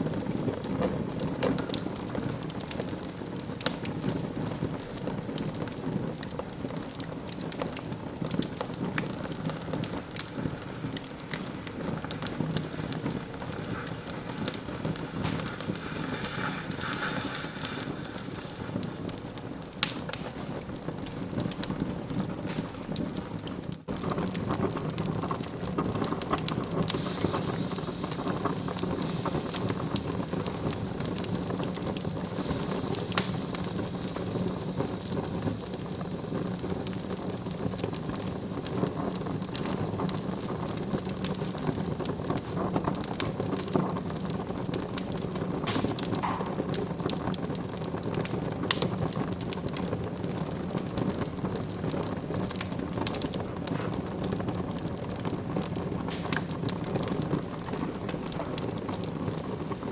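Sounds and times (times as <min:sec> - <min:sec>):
sharp pops of burning wood: 0:00.0 - 0:59.9
wood fire crackling: 0:00.0 - 0:59.9.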